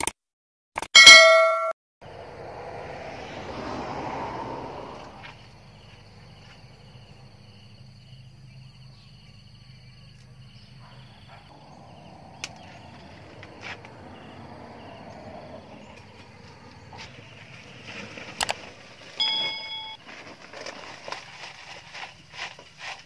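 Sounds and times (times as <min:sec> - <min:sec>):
insects chirping: 0:02.0 - 0:23.0.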